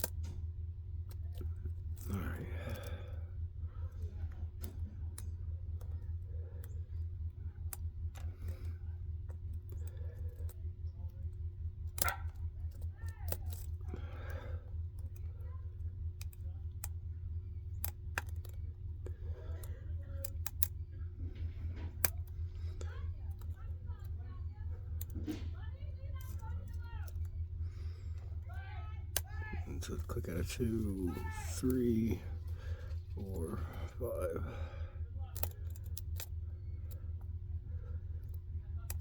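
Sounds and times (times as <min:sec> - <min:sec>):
steady low hum: 0:00.0 - 0:39.0
soft breaths or mutters: 0:00.2 - 0:11.8, 0:12.8 - 0:39.0
lock pick clicking in a lock: 0:03.8 - 0:34.4, 0:35.2 - 0:39.0.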